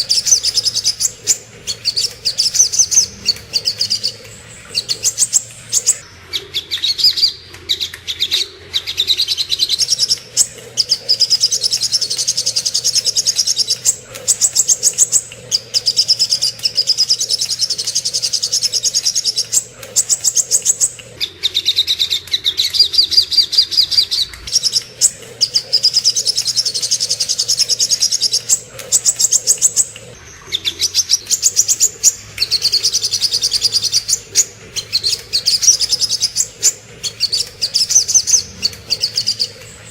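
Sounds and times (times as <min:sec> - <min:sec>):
songbird trilling chirps: 0:00.0 - 0:39.9.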